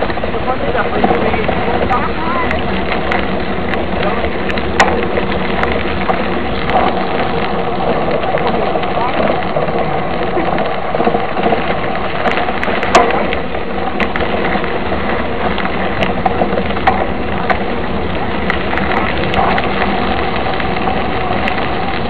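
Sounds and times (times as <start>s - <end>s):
bike clicks and rattles: 0.0s - 22.0s
bike tyres rumbling on gravel: 0.0s - 22.0s.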